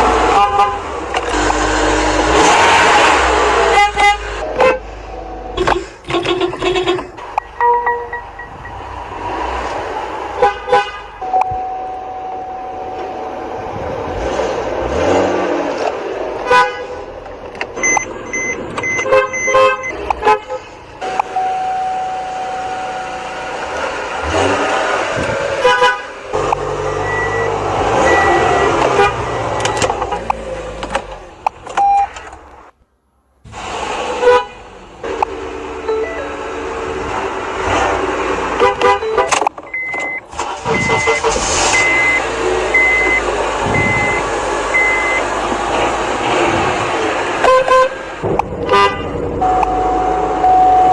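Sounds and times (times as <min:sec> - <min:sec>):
car horns honking: 0:00.0 - 0:32.3, 0:33.5 - 0:50.9.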